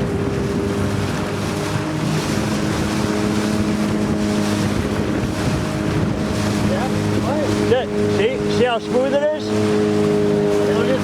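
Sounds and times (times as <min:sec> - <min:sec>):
motorboat engine running: 0:00.0 - 0:11.0
water rushing past hull: 0:00.0 - 0:11.0
wind buffeting microphone: 0:00.0 - 0:11.0.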